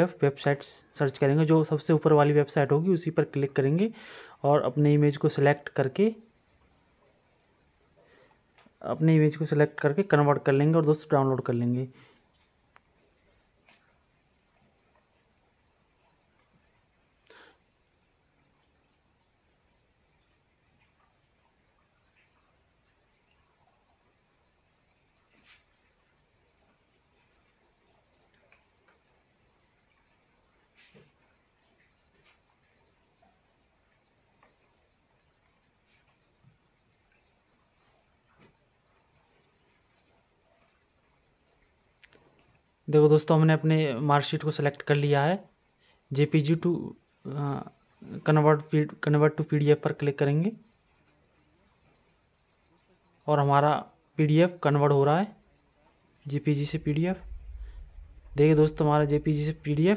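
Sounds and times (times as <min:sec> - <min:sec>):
high-pitched insect trill: 0:00.0 - 0:59.9.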